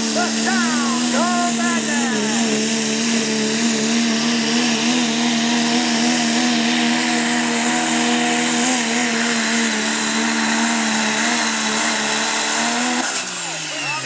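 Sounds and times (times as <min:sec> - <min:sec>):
pulling truck engine at high revs: 0:00.0 - 0:14.0.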